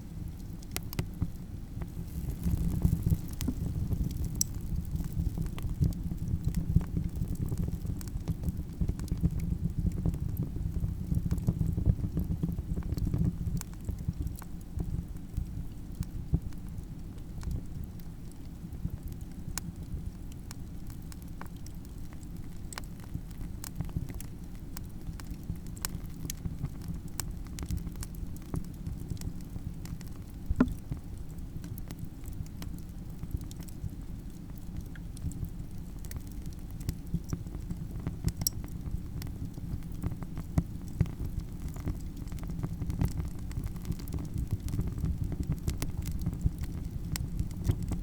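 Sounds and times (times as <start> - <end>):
campfire flame rumble: 0.0 - 48.0
burning wood crackling: 0.1 - 12.2, 20.4 - 48.0.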